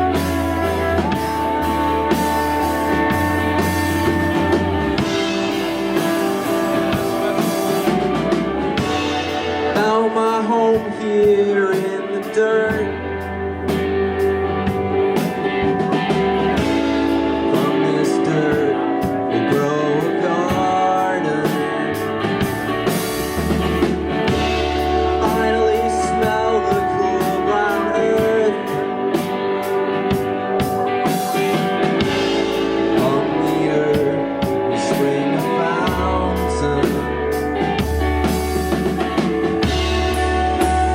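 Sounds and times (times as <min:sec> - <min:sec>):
lead guitar melodic line: 0:00.0 - 0:40.9
rock band playing live: 0:00.0 - 0:40.9.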